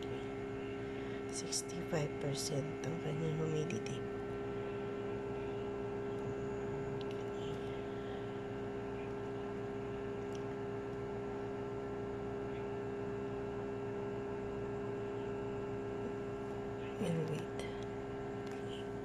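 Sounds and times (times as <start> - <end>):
egg incubator humming: 0.0 - 19.0.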